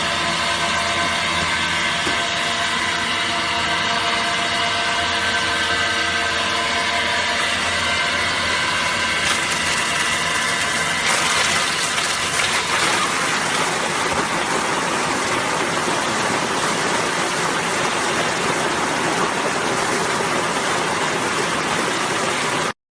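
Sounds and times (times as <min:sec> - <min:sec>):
motor whine: 0:00.0 - 0:22.5
grinding machine running: 0:00.0 - 0:22.7.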